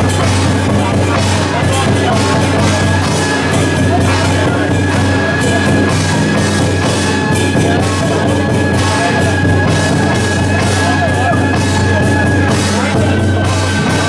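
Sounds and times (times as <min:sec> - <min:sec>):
cymbal-like crashes: 0:00.0 - 0:14.0
loud music with drums: 0:00.0 - 0:14.0
steady held tone: 0:00.0 - 0:14.0.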